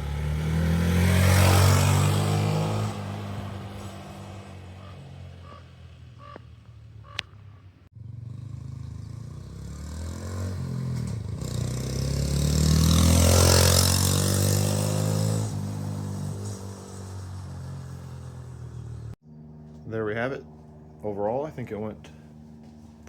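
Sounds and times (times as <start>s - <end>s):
motorcycle engine passing: 0.0s - 23.0s.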